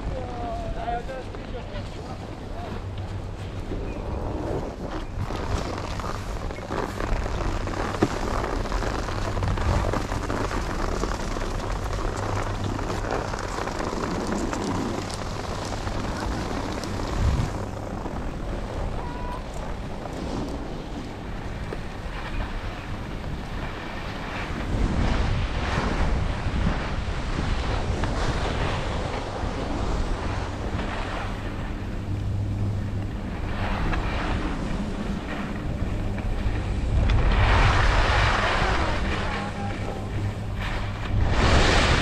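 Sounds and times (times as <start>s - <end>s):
skis scraping over snow: 0.0s - 42.0s
wind buffeting microphone: 0.0s - 42.0s.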